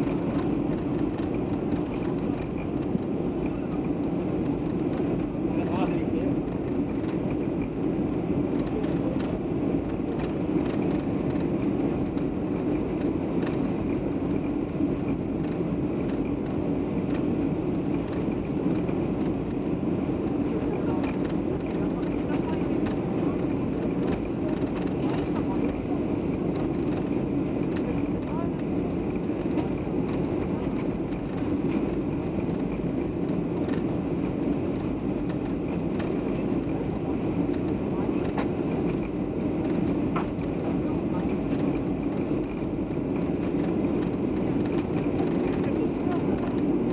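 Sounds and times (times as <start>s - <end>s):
faint clicks and rattles: 0.0s - 7.7s, 8.5s - 46.9s
airliner engine drone in cabin: 0.0s - 46.9s.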